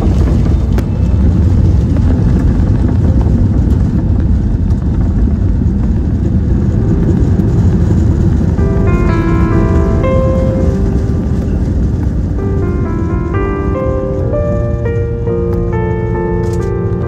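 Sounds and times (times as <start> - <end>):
airplane low rumble: 0.0 - 17.0.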